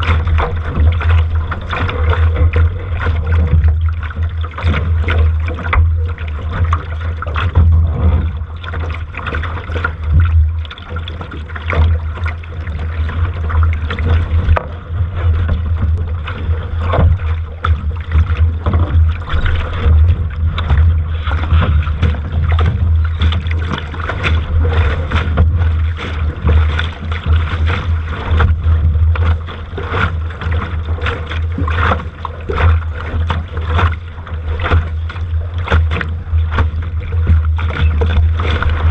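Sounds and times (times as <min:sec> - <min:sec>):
water rushing and splashing: 0:00.0 - 0:38.9.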